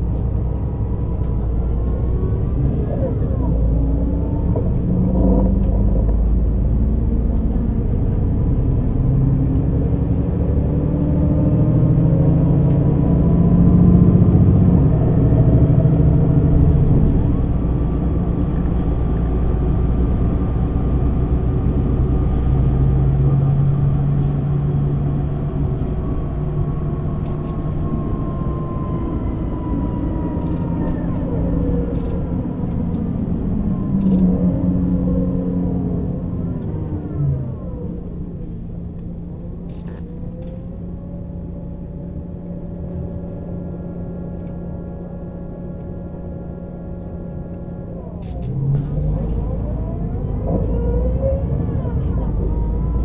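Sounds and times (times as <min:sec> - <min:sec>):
bus diesel engine running: 0:00.0 - 0:53.0.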